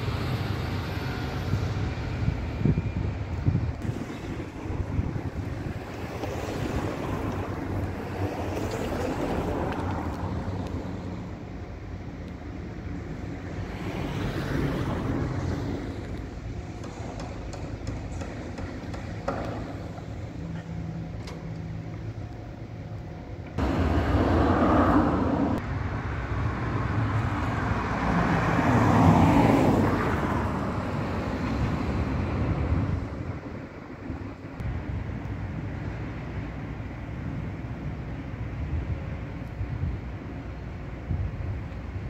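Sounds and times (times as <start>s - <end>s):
cars passing on street: 0.0s - 42.0s.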